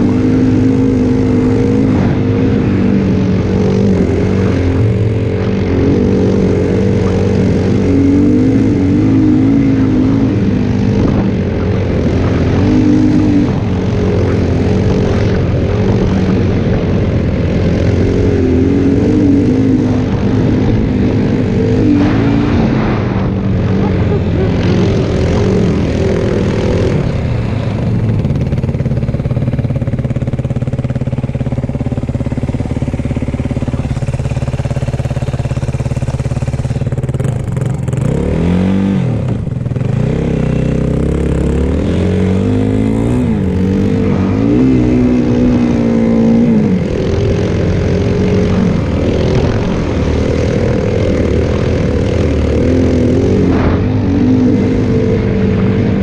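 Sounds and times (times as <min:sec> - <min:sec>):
snowbike engine revving: 0:00.0 - 0:56.0.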